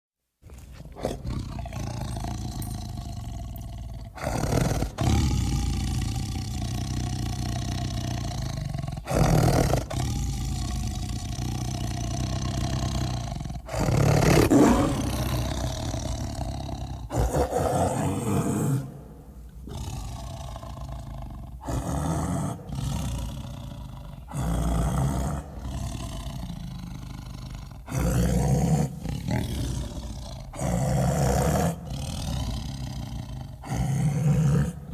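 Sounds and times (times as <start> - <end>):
big cat roars and growls: 0.4 - 34.9.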